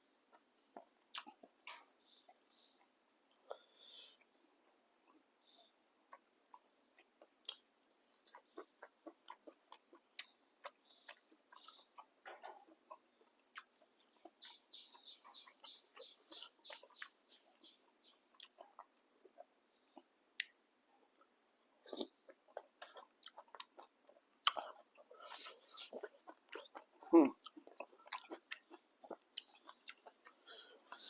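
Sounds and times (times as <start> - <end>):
chewing clicks and mouth smacks: 0.3 - 2.9, 6.1 - 20.6, 21.2 - 31.0.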